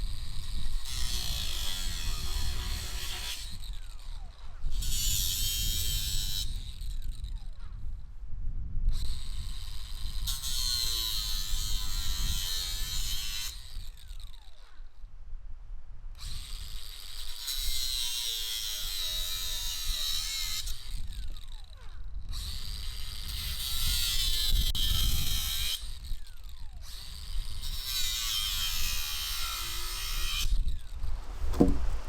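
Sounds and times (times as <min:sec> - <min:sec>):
power tool cutting nails: 0:00.0 - 0:07.9, 0:08.9 - 0:15.0, 0:16.2 - 0:32.0.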